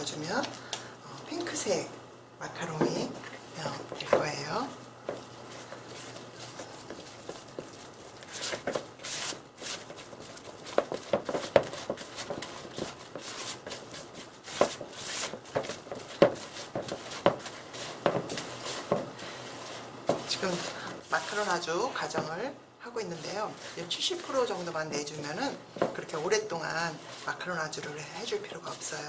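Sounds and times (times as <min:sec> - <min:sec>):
spatula scraping batter in a bowl: 0:02.9 - 0:22.4, 0:23.0 - 0:29.0.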